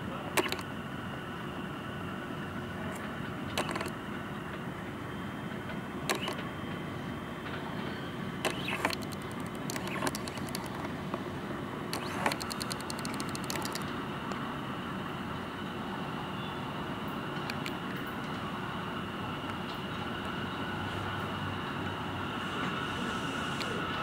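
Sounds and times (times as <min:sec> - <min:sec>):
subway train running noise: 0:00.0 - 0:12.4, 0:13.9 - 0:24.0.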